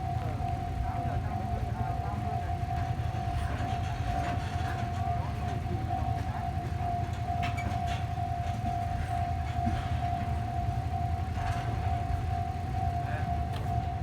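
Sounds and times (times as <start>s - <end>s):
steady alarm tone: 0.0s - 14.0s.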